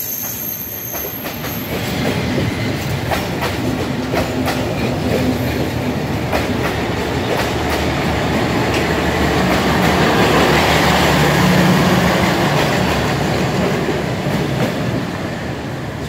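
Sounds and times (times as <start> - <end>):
train wheels rumbling on rails: 0.0 - 16.0
clickety-clack over rail joints: 0.9 - 15.3.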